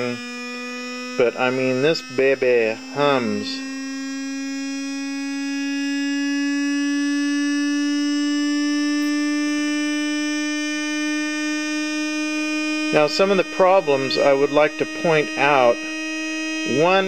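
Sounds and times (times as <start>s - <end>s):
motor spinning with high hum: 0.0s - 17.0s.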